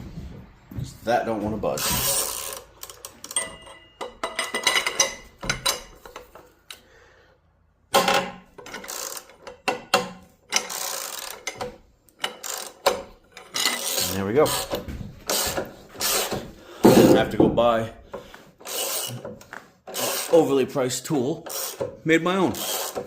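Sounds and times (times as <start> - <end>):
socket wrench and pipe clanking: 1.8 - 6.5, 7.9 - 20.5, 21.4 - 23.0.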